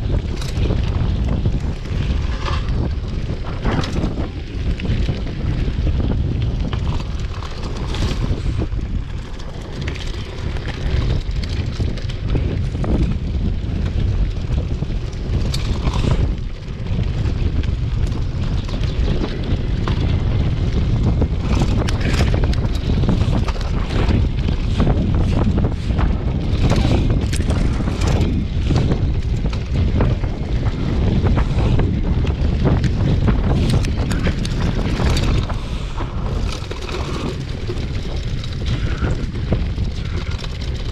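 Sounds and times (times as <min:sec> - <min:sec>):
bike rattling over bumps: 0:00.0 - 0:40.9
wind buffeting microphone: 0:00.0 - 0:40.9.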